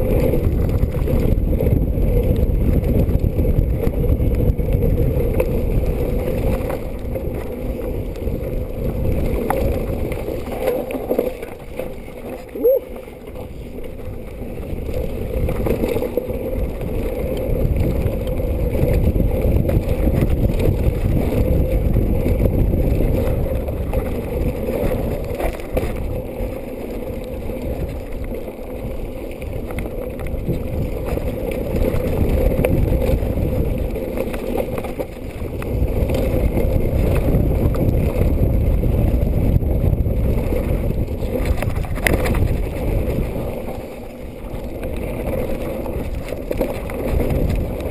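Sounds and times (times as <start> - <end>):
bike rattling over bumps: 0.0 - 47.9
tyres rolling over loose stones: 0.0 - 47.9
wind rushing over microphone: 0.0 - 47.9.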